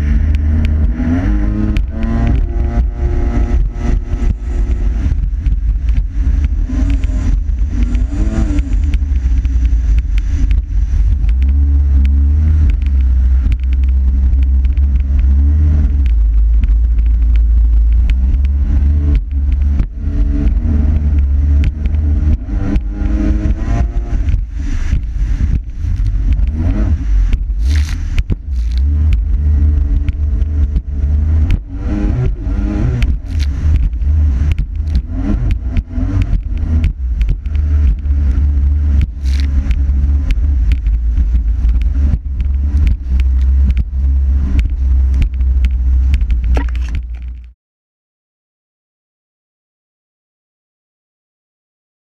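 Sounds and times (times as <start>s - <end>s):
jetski engine running: 0.0s - 47.5s
wind on microphone: 0.0s - 47.6s.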